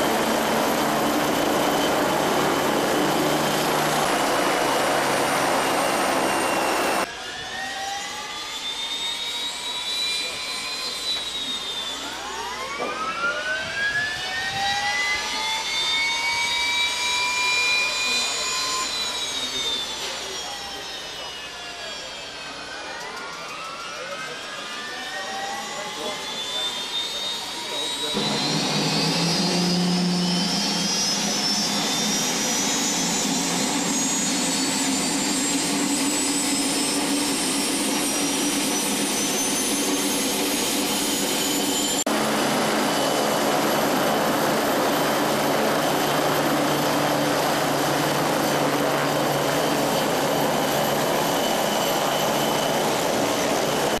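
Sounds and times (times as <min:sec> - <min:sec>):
helicopter rotor noise: 0:00.0 - 0:54.0
helicopter turbine whine: 0:00.0 - 0:54.0.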